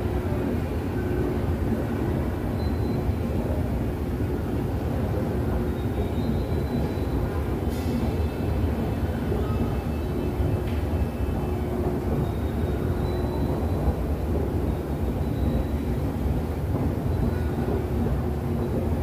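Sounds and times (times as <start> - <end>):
faint mechanical hums: 0.0 - 19.0
low station rumble: 0.0 - 19.0.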